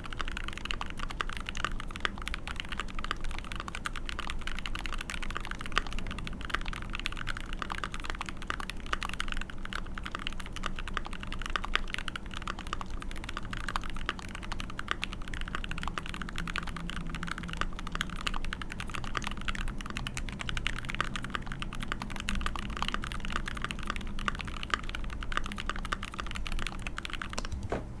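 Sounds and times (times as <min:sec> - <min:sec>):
mechanical keyboard typing: 0:00.0 - 0:28.0.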